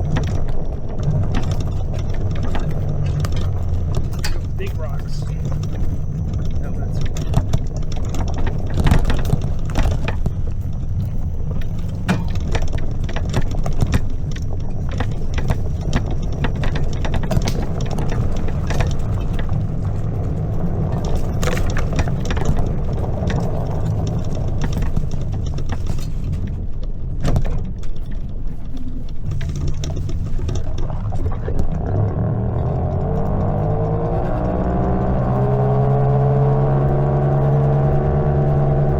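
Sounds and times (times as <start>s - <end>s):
bike rattles and knocks: 0.0s - 38.9s.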